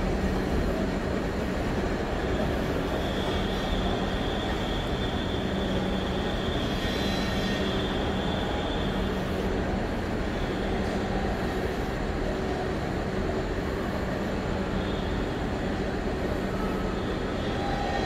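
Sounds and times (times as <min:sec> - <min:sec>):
diesel locomotives engines running: 0:00.0 - 0:18.0.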